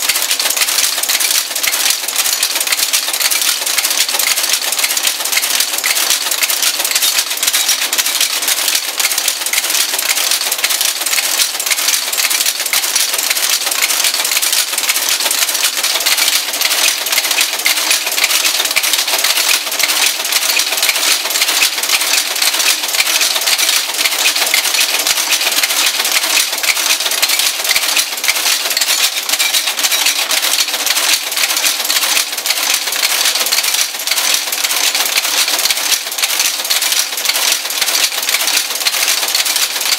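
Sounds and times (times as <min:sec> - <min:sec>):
metallic clatter of type caster: 0:00.0 - 0:39.9.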